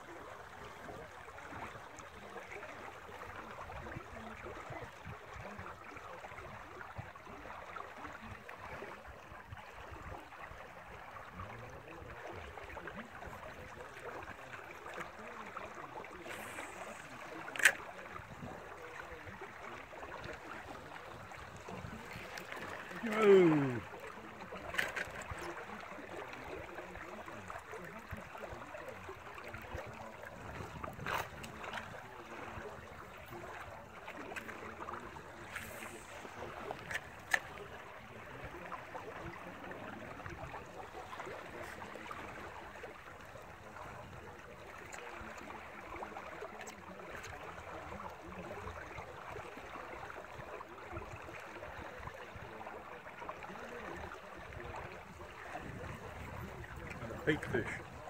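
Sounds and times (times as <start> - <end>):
water rushing out of culvert: 0.0 - 58.0.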